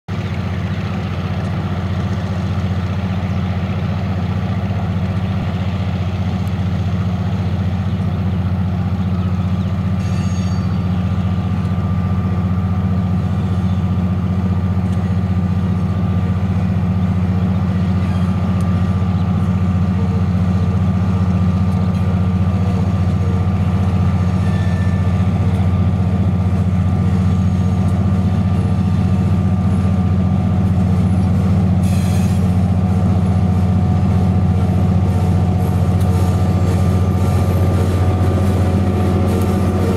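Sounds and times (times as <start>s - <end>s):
locomotive diesel engine drone: 0.1s - 39.9s.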